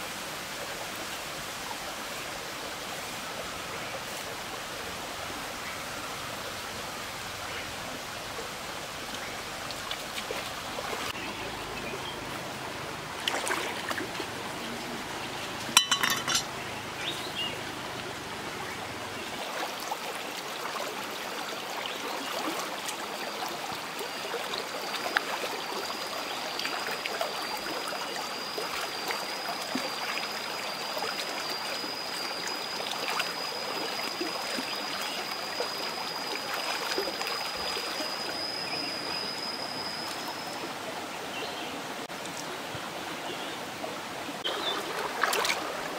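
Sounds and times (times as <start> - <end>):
stream running over rocks: 0.0 - 45.9.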